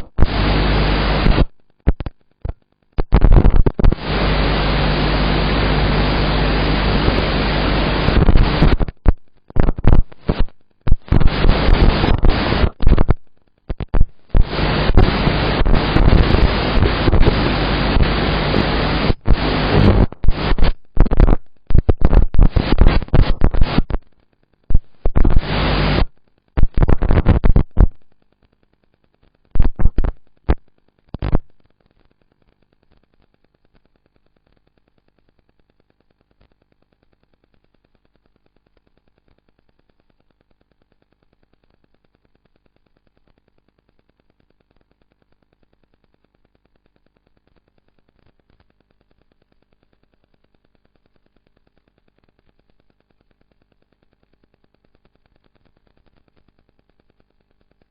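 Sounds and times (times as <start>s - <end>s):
loud static hiss: 0.0s - 57.9s.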